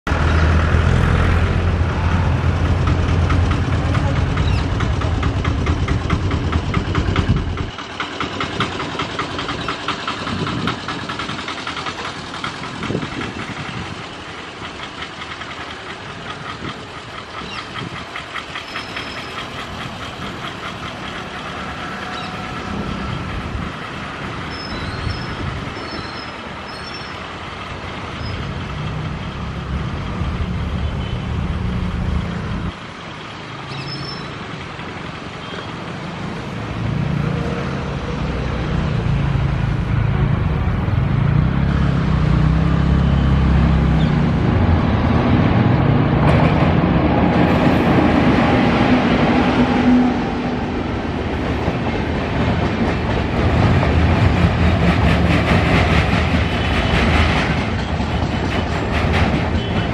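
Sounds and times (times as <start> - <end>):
electric train running: 0.2 - 59.9.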